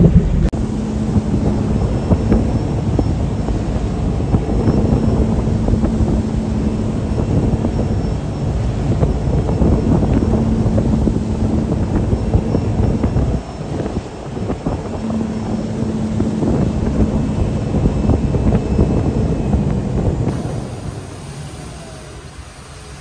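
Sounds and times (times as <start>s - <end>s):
boat engine running: 0.0s - 23.0s
faint hum: 0.0s - 23.0s
rush of boat wake: 0.0s - 23.0s
wind buffeting microphone: 0.0s - 23.0s.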